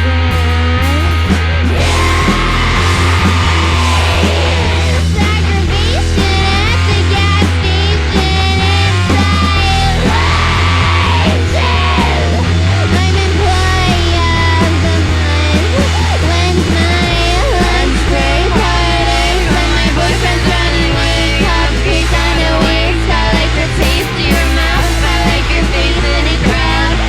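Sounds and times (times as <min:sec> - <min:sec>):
heavy bass: 0:00.0 - 0:27.0
live rock band: 0:00.0 - 0:27.0.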